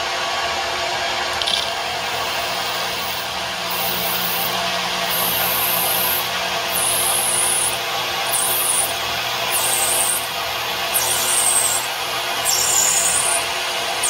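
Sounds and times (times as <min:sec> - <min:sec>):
lathe spindle rushing noise: 0:01.7 - 0:14.0.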